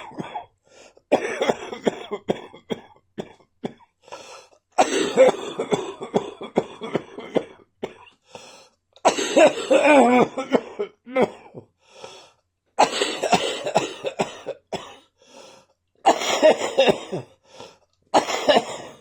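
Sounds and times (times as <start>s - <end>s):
person coughing: 0.0s - 0.5s, 1.1s - 8.2s, 9.1s - 11.7s, 12.8s - 15.1s, 16.1s - 19.0s.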